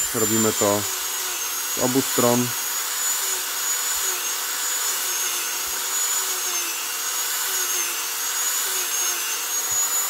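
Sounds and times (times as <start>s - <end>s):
rotary tool sanding rubber: 0.0s - 10.0s.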